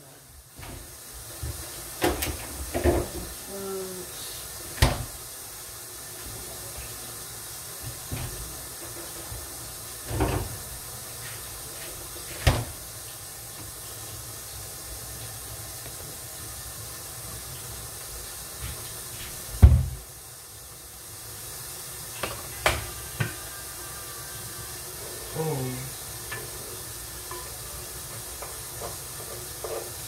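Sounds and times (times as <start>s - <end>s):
pots hissing on stovetop: 0.0s - 30.0s.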